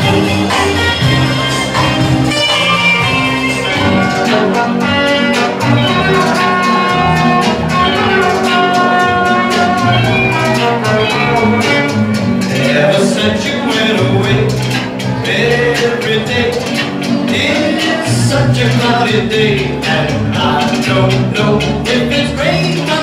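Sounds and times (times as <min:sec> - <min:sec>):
oldies dance music: 0:00.0 - 0:23.0.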